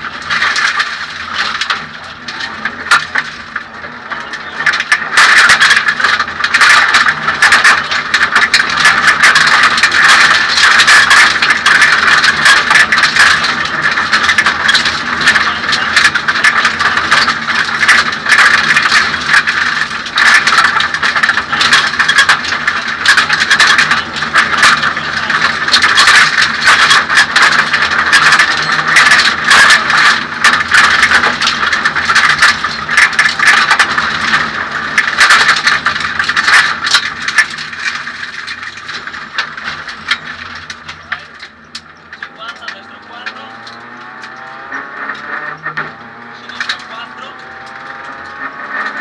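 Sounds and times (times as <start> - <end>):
dense rattling and clatter: 0.0 - 49.0
rally car engine: 0.0 - 49.0.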